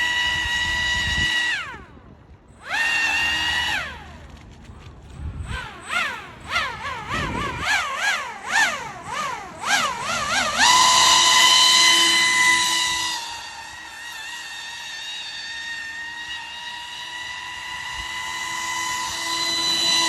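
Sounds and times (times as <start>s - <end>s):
electric motor and fan whining: 0.0s - 20.0s.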